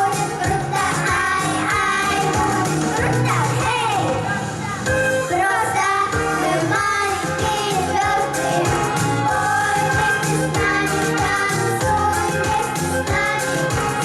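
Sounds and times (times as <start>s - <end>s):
backing track drum beat: 0.0s - 14.0s
children singing pop song: 0.0s - 14.0s.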